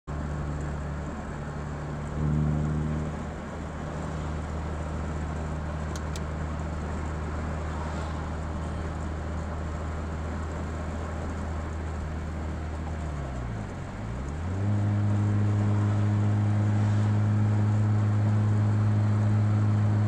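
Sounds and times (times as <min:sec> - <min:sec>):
car engine running from inside: 0:00.1 - 0:20.0.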